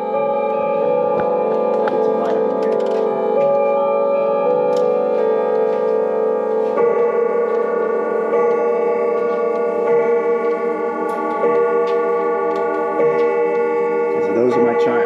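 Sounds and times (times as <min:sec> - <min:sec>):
grandfather clock chiming: 0:00.0 - 0:15.0.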